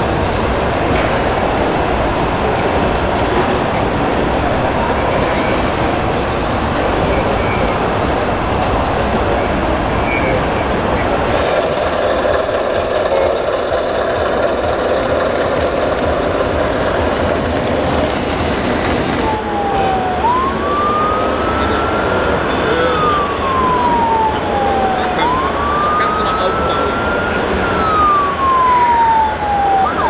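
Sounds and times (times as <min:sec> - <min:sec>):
crowd noise in a hall: 0:00.0 - 0:30.0
wailing siren: 0:00.0 - 0:30.0.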